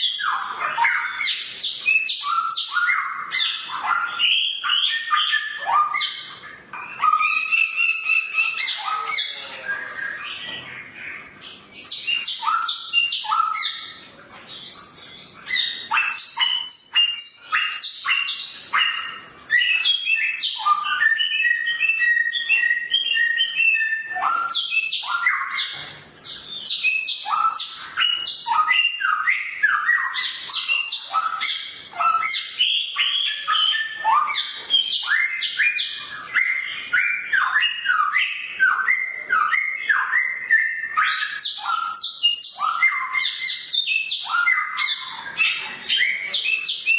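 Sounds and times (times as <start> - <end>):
songbird chirping and whistling: 0.0 - 46.9.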